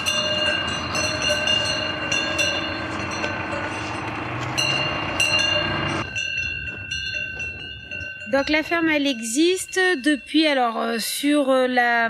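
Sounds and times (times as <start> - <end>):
cowbells jangling: 0.0 - 12.0.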